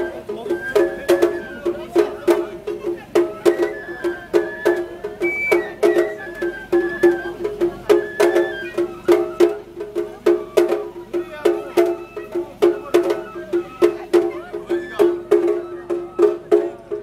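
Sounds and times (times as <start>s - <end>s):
high wavering melody: 0.0s - 16.8s.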